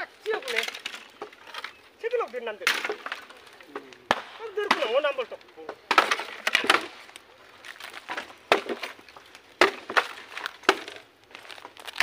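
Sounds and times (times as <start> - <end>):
bamboo cracking and snapping: 0.0 - 12.0.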